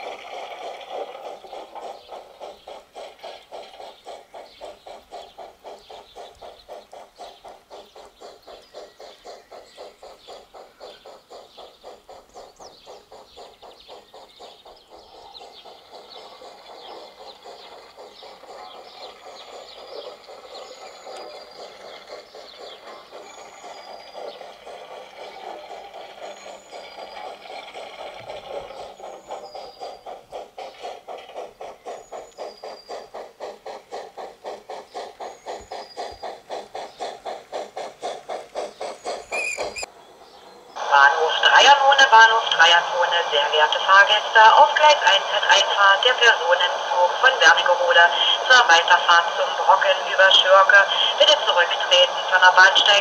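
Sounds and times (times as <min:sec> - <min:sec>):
birds chirping: 0:00.0 - 0:53.0
steam locomotive chuffing: 0:00.0 - 0:53.0.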